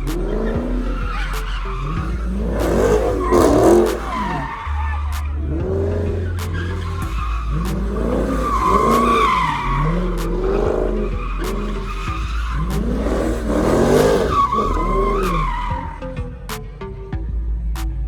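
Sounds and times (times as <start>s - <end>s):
car tires squealing: 0.0s - 17.1s
car engine revving: 0.0s - 18.0s.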